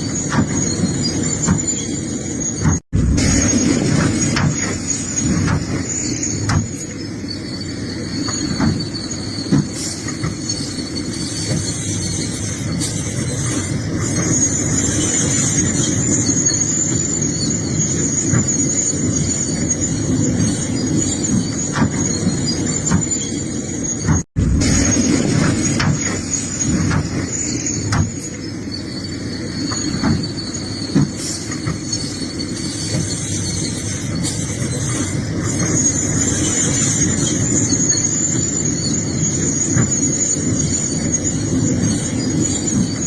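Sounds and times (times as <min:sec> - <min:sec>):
excavator diesel engine: 0:00.0 - 0:43.0
high steady squeal: 0:00.0 - 0:43.0.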